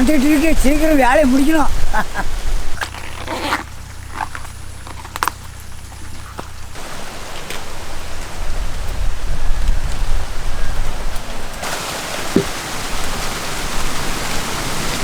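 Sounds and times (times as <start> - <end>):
rain hissing: 0.0 - 15.0.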